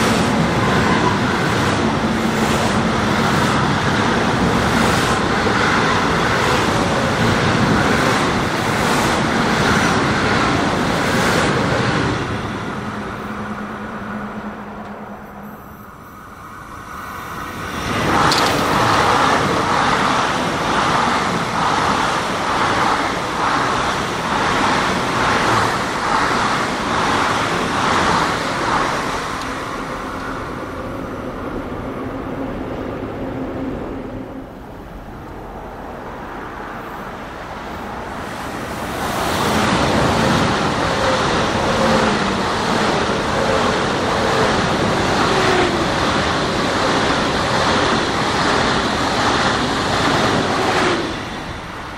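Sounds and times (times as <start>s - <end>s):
electric train passing: 0.0s - 51.9s.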